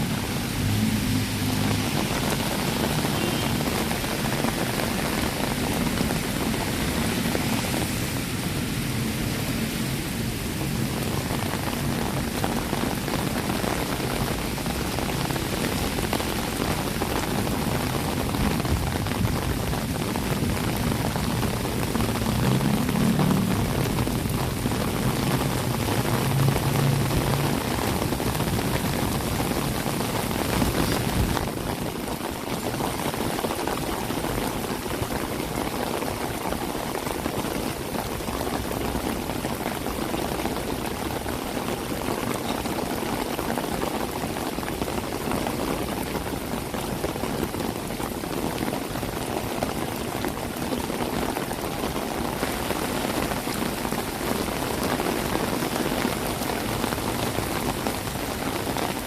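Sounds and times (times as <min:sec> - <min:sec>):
rain splashing on hard surfaces: 0:00.0 - 0:59.0.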